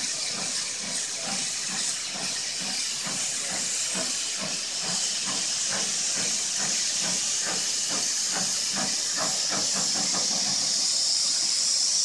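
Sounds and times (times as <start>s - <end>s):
steam hissing: 0.0s - 12.0s
steam locomotive chuffing: 0.0s - 12.0s.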